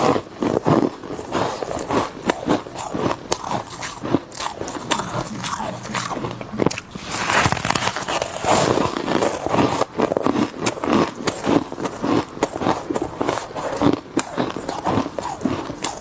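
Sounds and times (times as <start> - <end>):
chewing crunchy frost: 0.0 - 16.0.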